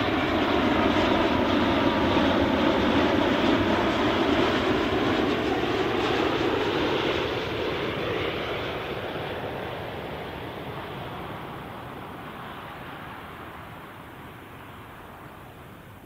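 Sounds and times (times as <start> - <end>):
jet airliner engines: 0.0 - 16.0.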